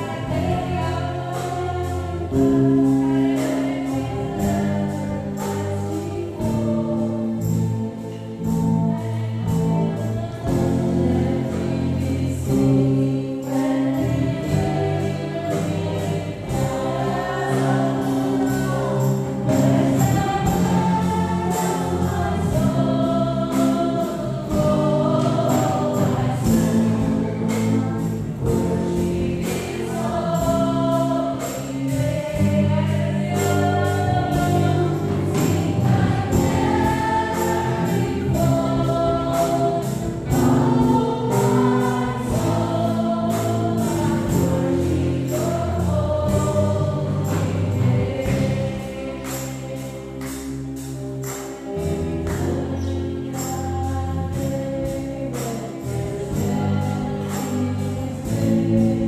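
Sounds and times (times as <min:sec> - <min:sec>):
live gospel band: 0:00.0 - 0:59.0.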